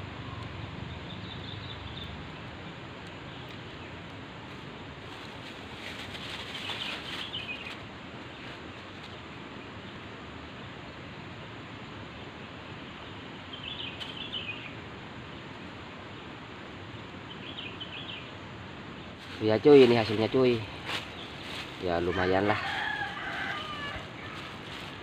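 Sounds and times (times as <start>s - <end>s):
riverside background hiss: 0.0s - 25.0s.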